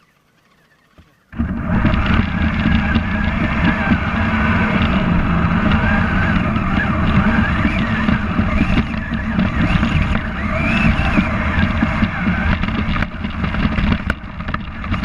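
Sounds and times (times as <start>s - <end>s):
electric motor whining: 0.4s - 15.0s
low rumble: 1.4s - 15.0s.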